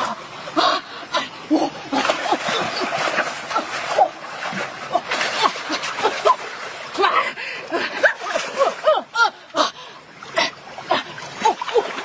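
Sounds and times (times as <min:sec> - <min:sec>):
water splashing in stream: 0:00.0 - 0:12.0.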